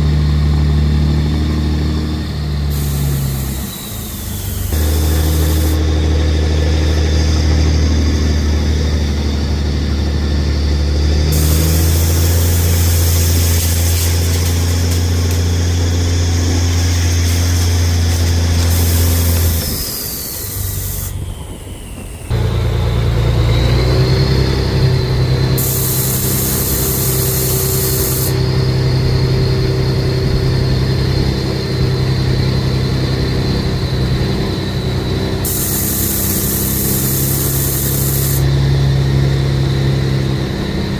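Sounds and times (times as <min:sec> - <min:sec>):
truck engine running: 0:00.0 - 0:40.9
steady high whine: 0:02.1 - 0:40.9.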